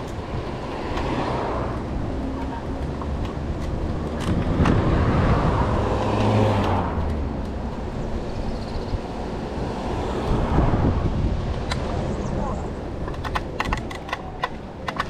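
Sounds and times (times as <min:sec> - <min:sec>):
car passing: 0:00.0 - 0:13.0
wind rumble on microphone: 0:00.0 - 0:14.5
scooter road noise: 0:00.0 - 0:15.0.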